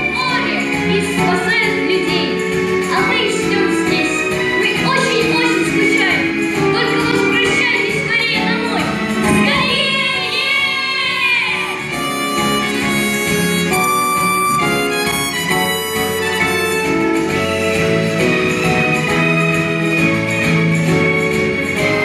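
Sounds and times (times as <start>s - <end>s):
recorded backing music: 0.0s - 22.0s.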